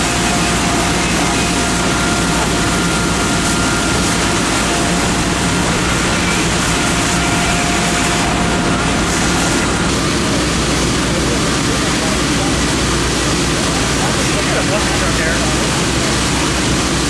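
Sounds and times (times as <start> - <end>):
fire engine pump droning: 0.0 - 17.0.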